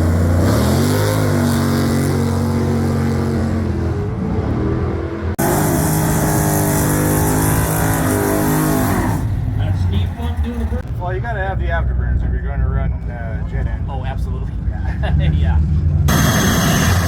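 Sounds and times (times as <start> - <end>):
second engine running: 0.0 - 10.8, 11.6 - 17.0.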